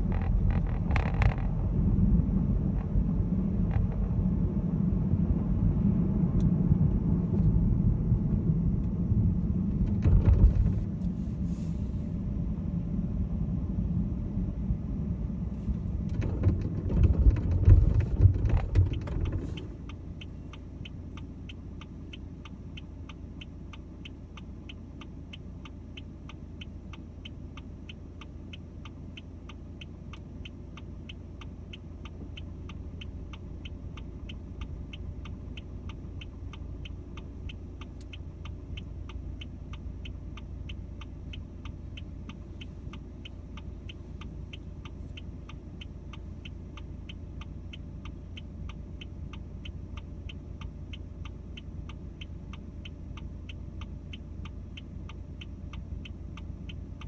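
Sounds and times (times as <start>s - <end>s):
car engine idling: 0.0s - 57.0s
turn signal ticking: 0.0s - 57.0s.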